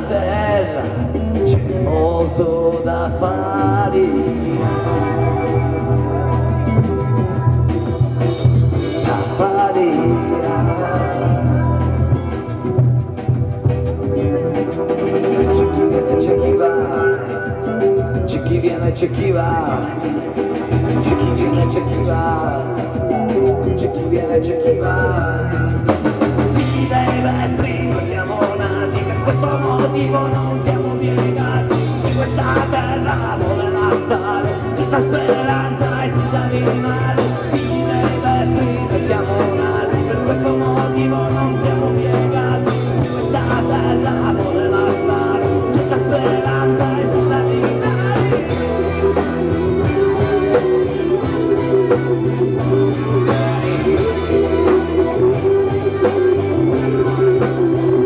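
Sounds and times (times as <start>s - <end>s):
bass guitar: 0.0s - 58.0s
electric guitar: 0.0s - 58.0s
man singing: 0.0s - 58.0s.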